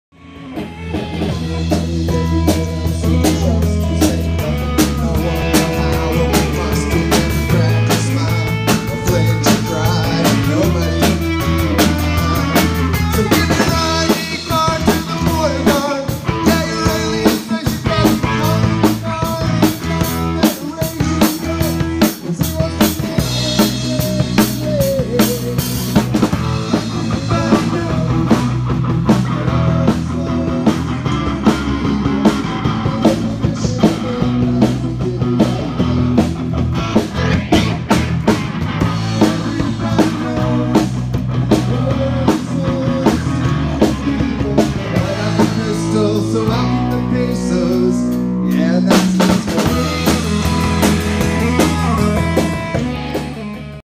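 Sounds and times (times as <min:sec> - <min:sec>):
rock band playing live: 0:00.1 - 0:53.8
drum kit beat: 0:00.2 - 0:53.8.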